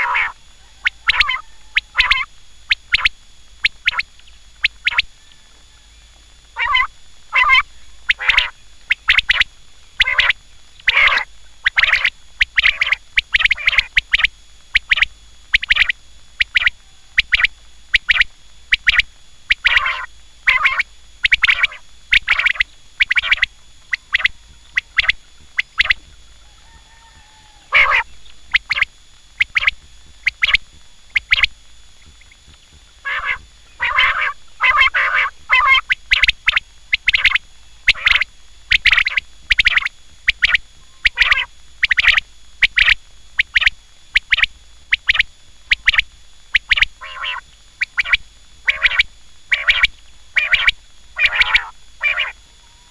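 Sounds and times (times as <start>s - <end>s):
quail calling: 0.0s - 52.9s.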